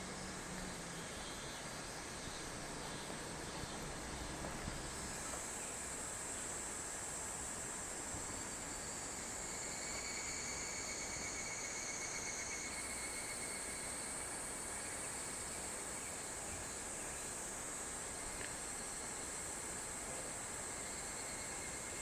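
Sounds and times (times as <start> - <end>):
background hiss: 0.0 - 22.0
insects trilling: 0.0 - 22.0.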